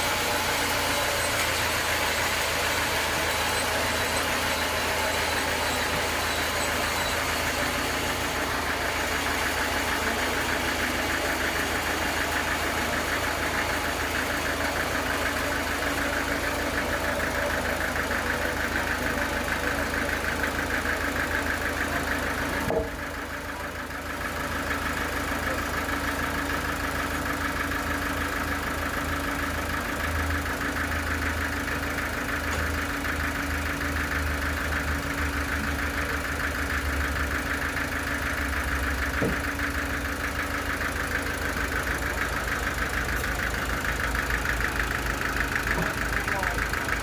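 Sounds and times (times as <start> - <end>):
sawmill machinery drone: 0.0 - 47.0.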